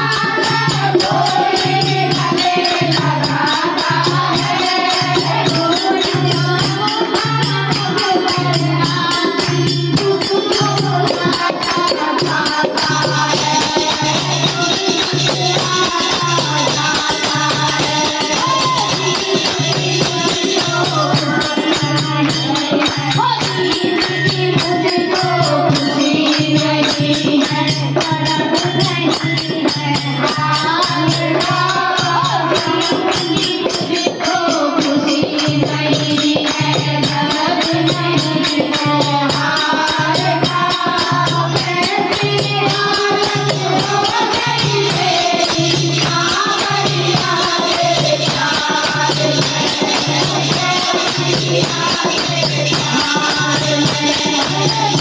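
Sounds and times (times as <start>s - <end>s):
hand cymbals jingling: 0.0s - 55.0s
women singing in unison: 0.0s - 55.0s.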